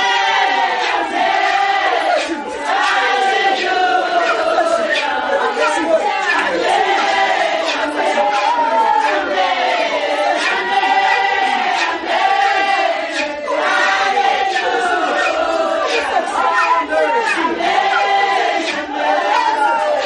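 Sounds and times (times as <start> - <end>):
congregation singing and chanting: 0.0 - 20.0
people shouting: 0.0 - 20.0.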